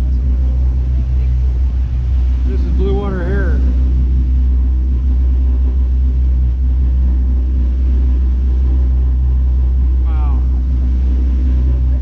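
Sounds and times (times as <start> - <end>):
boat engines droning: 0.0 - 12.0
water rushing from wake: 0.0 - 12.0.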